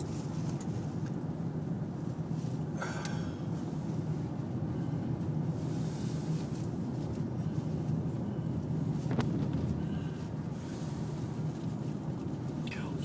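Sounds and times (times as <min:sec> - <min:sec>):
car interior rumble: 0:00.0 - 0:13.0.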